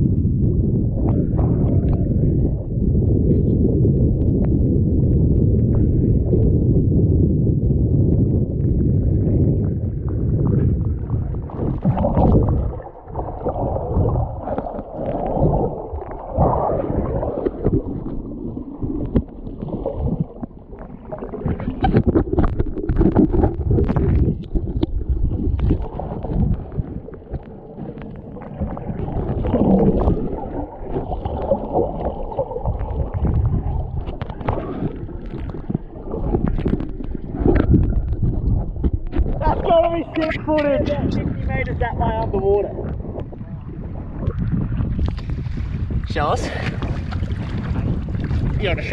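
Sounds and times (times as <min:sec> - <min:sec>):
muffled underwater water rushing: 0:00.0 - 0:48.9.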